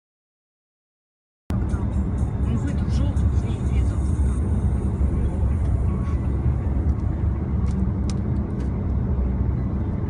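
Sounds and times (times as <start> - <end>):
car engine and road rumble: 1.5 - 10.0.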